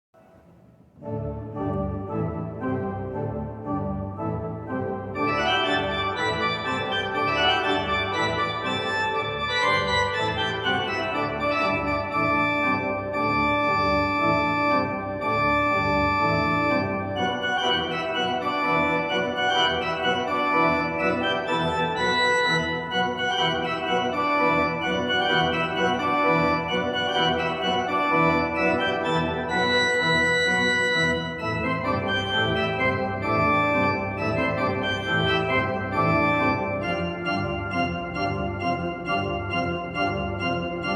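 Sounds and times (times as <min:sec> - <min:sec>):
pipe organ chords: 0:00.3 - 0:40.9.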